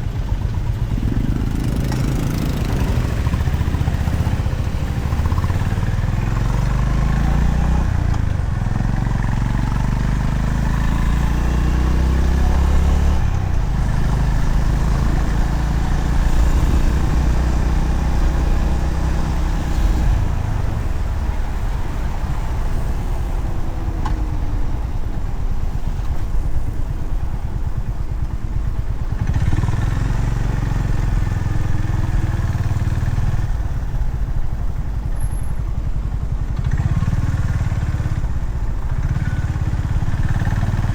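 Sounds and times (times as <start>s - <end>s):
motorcycle engine accelerating: 0.0s - 40.9s
wind and road rush: 0.0s - 40.9s.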